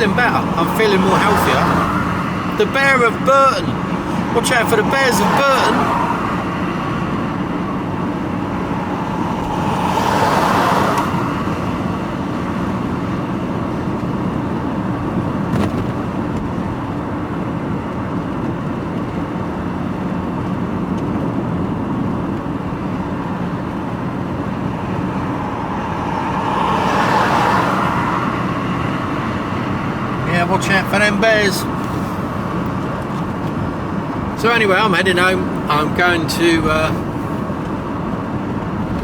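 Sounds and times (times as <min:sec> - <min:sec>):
passing traffic: 0:00.0 - 0:39.0
van engine and road noise: 0:00.0 - 0:39.0.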